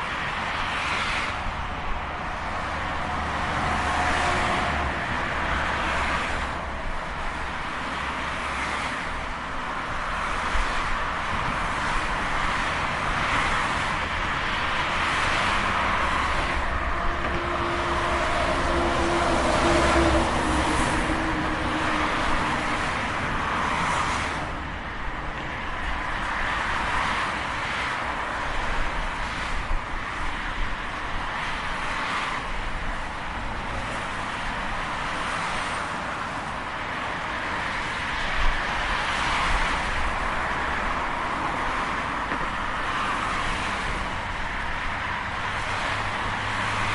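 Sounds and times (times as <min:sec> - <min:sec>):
highway traffic: 0:00.0 - 0:46.9
vehicles passing: 0:00.0 - 0:46.9.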